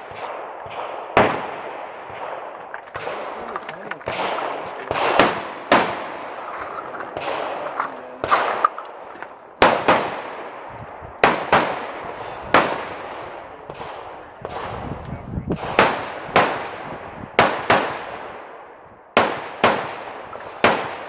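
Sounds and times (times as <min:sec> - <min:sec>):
sharp gunshots with echo: 0:00.0 - 0:14.8, 0:15.6 - 0:18.4, 0:19.2 - 0:21.0.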